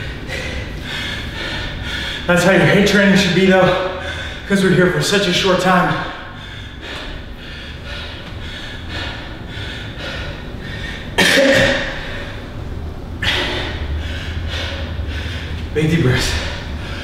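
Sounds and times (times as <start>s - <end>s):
man breathing hard: 0.0s - 4.7s, 5.3s - 17.0s.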